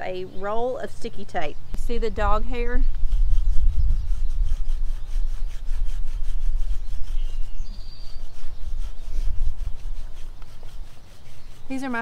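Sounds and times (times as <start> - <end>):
lint roller rubbing on fabric: 2.2 - 12.0.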